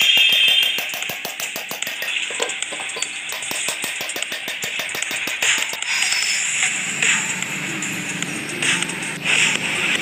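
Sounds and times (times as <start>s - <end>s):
music with fast ticking beat: 0.0s - 10.0s.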